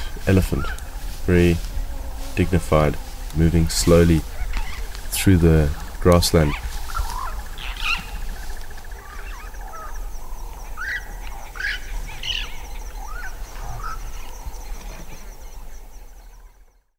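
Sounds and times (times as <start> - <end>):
high pulsing insect trill: 0.0 - 16.9
low wind rumble: 0.0 - 16.9.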